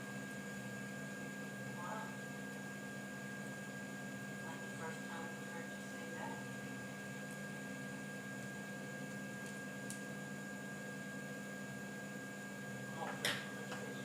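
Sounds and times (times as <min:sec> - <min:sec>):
electrical hum with whine: 0:00.0 - 0:14.0.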